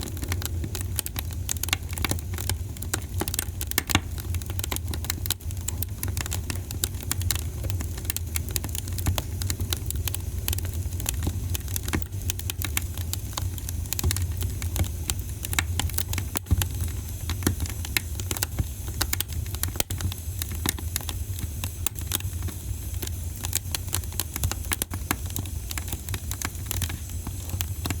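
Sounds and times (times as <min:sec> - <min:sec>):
fireplace fire crackling: 0:00.0 - 0:28.0.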